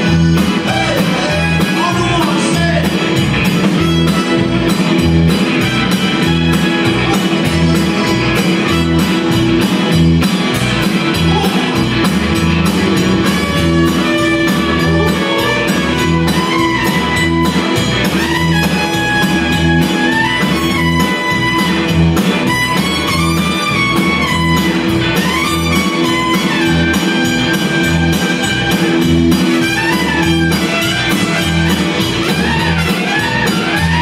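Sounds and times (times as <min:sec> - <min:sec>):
button accordion: 0:00.0 - 0:11.0, 0:12.1 - 0:34.0
drum kit beat: 0:00.0 - 0:34.0
electric guitar: 0:00.0 - 0:34.0
keyboard: 0:00.0 - 0:34.0.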